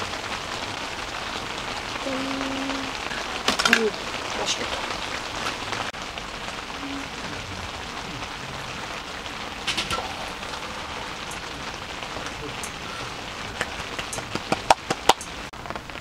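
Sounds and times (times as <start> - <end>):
rain on tent fabric: 0.0 - 16.0.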